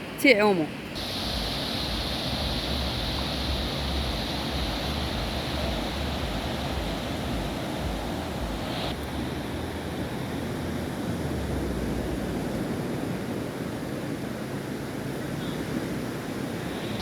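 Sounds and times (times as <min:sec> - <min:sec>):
surf washing on beach: 0:00.0 - 0:17.0
wind buffeting microphone: 0:00.9 - 0:17.0.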